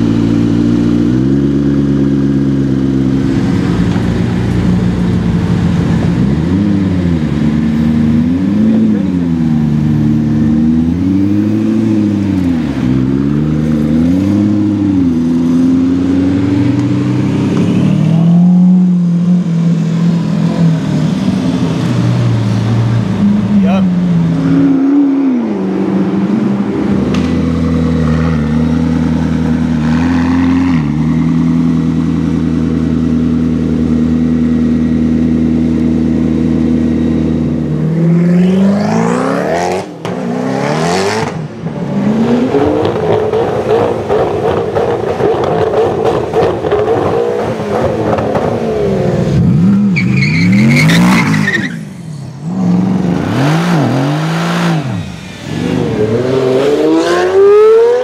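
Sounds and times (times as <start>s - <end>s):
sports car engines revving and accelerating: 0.0s - 58.0s.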